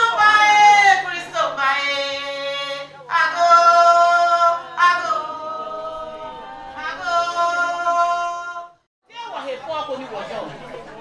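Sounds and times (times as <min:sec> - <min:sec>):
person singing unaccompanied: 0:00.0 - 0:08.8.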